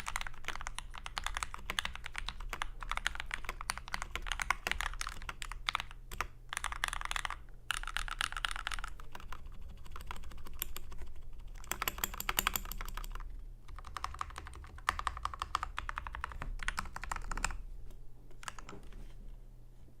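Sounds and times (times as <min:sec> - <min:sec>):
mechanical keyboard typing: 0:00.0 - 0:17.6, 0:18.4 - 0:19.0
faint low hum: 0:00.0 - 0:20.0.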